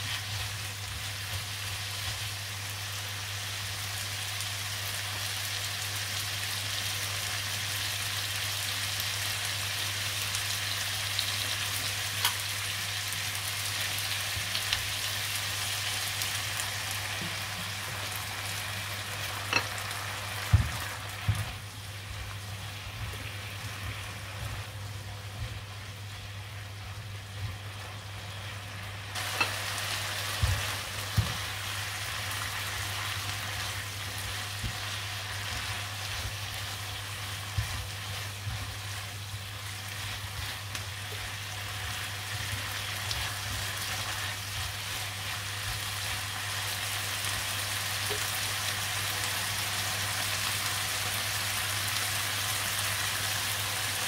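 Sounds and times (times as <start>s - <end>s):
stir-fry sizzling in pan: 0.0s - 54.0s.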